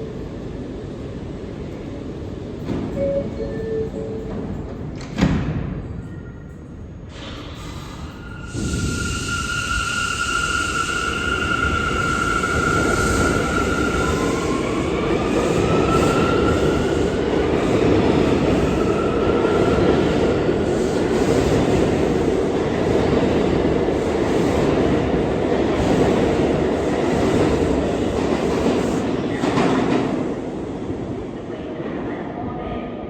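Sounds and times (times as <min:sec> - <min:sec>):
subway train rumbling through station: 0:00.0 - 0:33.0.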